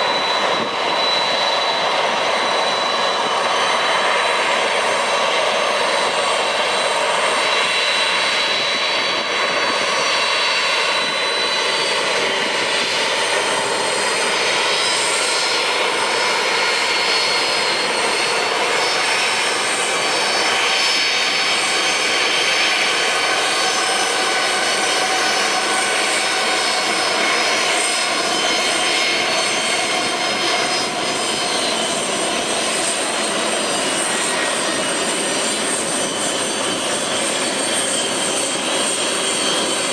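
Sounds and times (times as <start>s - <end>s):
high-pitched engine whine: 0.0s - 39.9s
jet engines running: 0.0s - 39.9s.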